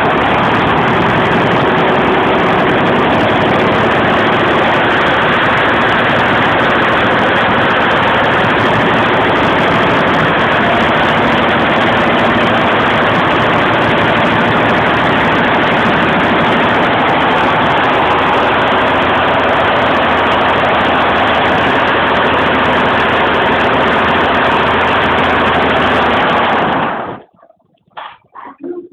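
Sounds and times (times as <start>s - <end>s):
embroidery machine clattering: 0.0s - 27.3s.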